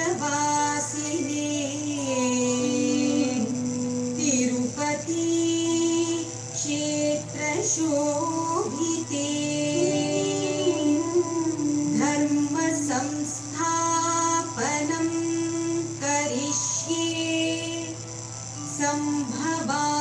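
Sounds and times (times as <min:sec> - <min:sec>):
steady low drone: 0:00.0 - 0:16.1
woman singing devotional song: 0:00.0 - 0:20.0.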